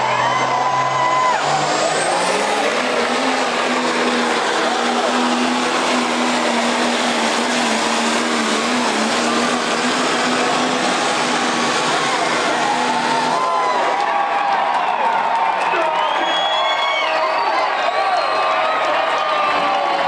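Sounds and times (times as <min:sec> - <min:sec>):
diesel engine at full throttle: 0:00.0 - 0:17.9.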